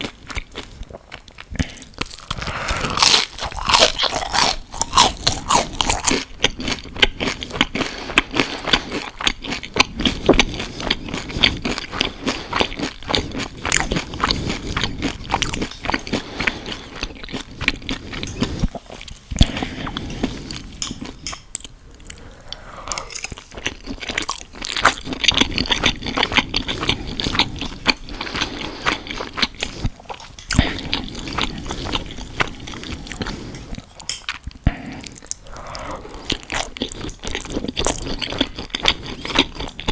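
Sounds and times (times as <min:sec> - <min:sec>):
crunching onion rings: 0:00.0 - 0:22.2, 0:22.9 - 0:39.9.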